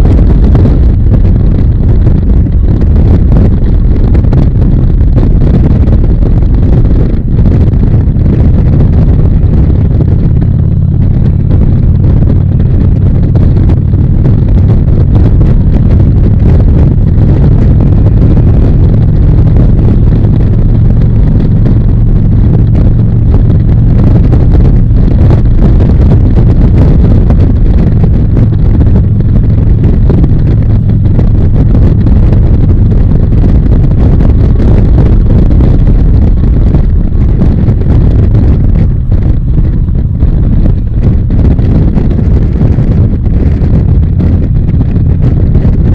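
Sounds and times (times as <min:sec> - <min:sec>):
motorcycle engine cruising: 0:00.0 - 0:45.9
wind buffeting microphone: 0:00.0 - 0:45.9.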